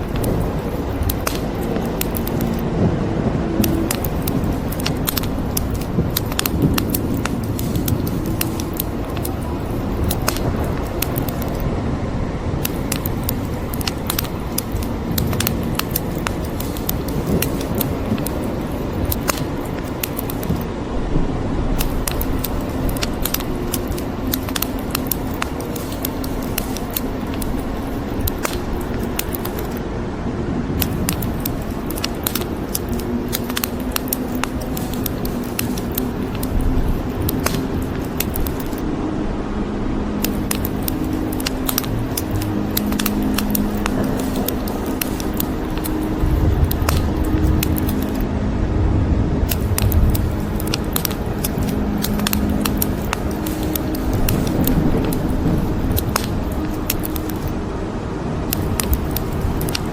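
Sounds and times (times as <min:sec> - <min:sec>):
wood fire crackling: 0:00.0 - 0:38.9, 0:40.1 - 0:48.6, 0:49.4 - 0:59.9
rain hissing: 0:00.0 - 0:59.9.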